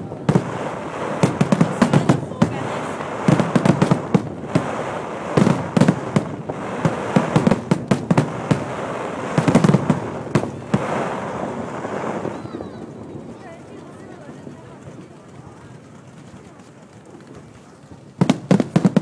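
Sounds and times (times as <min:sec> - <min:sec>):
fireworks bangs: 0:00.0 - 0:16.2, 0:17.0 - 0:19.0
fireworks crackle: 0:00.0 - 0:19.0.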